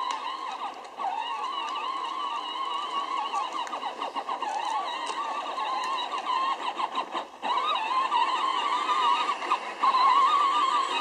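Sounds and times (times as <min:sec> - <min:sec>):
electric toy tractor motor whining: 0:00.0 - 0:11.0.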